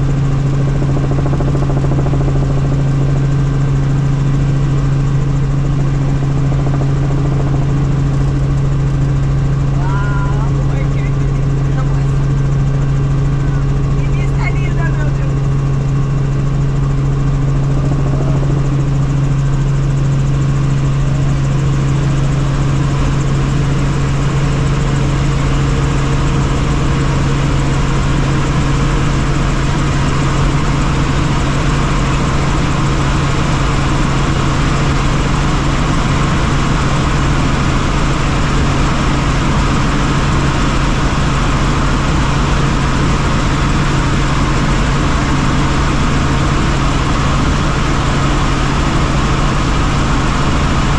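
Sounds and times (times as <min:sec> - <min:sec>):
helicopter engine and rotor: 0:00.0 - 0:50.9.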